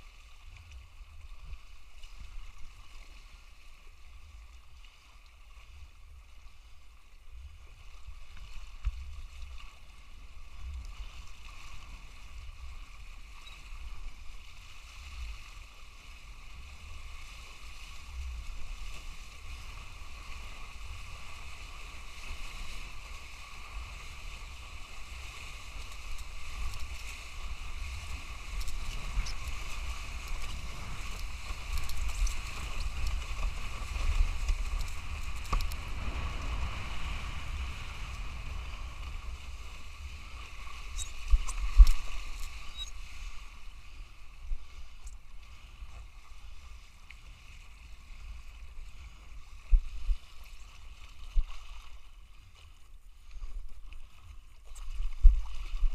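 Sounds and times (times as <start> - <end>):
wind rumbling on microphone: 5.6 - 55.9.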